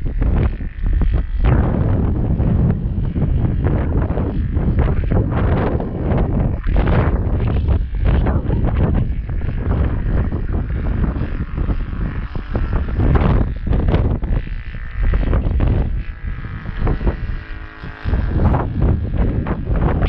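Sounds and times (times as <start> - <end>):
model plane engine: 0.0 - 20.0
wind buffeting microphone: 0.0 - 20.0.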